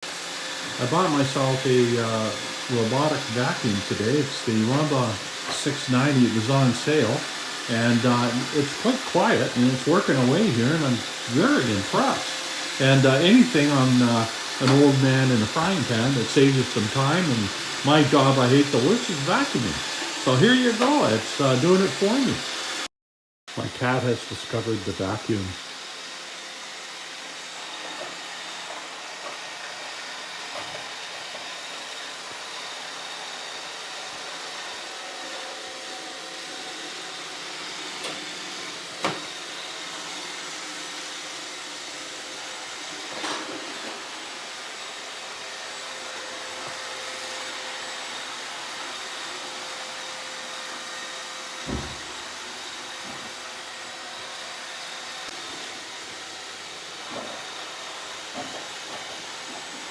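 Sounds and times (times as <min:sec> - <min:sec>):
robot vacuum whirring: 0:00.1 - 0:22.9, 0:23.6 - 0:59.9.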